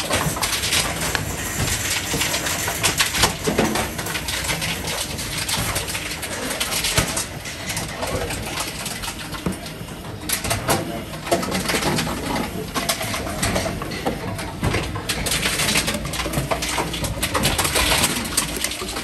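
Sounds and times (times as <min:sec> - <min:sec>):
bottle return machine running: 0:00.0 - 0:19.0
plastic bottles crinkling and clattering: 0:00.0 - 0:19.0.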